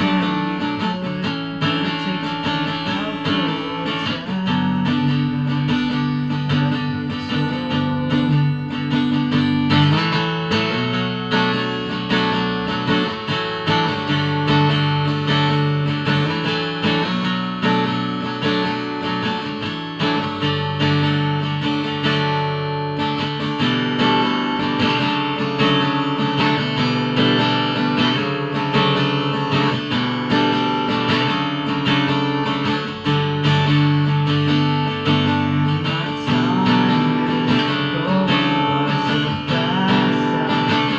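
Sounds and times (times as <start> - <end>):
acoustic guitar chords: 0.0 - 40.9.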